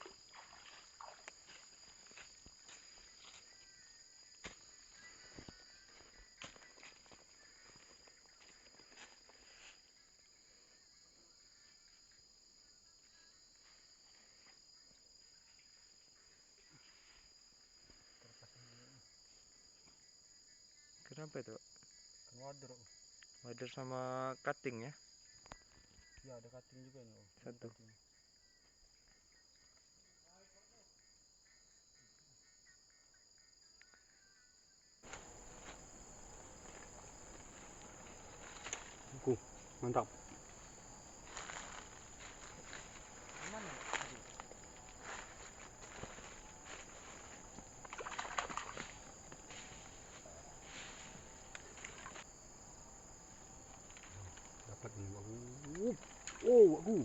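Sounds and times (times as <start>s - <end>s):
crickets chirring: 0.0s - 57.0s
insects chorus: 0.0s - 57.0s.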